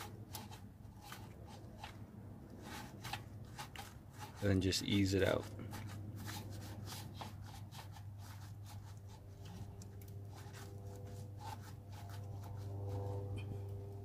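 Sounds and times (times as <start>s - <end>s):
hose scraping and rubbing: 0.0s - 14.0s
steady low hum: 0.0s - 14.0s.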